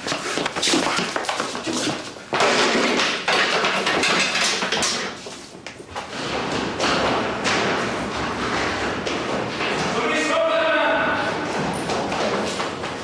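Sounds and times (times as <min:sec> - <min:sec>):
scuffling and clattering furniture: 0:00.0 - 0:13.0.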